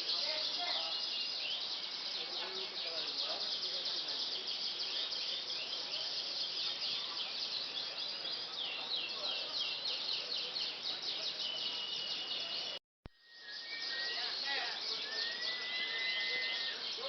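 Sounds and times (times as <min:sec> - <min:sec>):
canaries singing: 0:00.0 - 0:17.0
faint background noise: 0:00.0 - 0:17.0.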